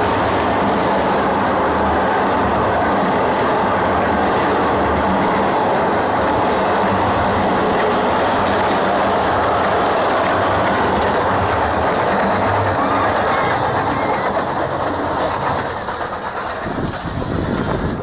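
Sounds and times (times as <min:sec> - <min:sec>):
roller coaster rumbling on rails: 0:00.0 - 0:18.0.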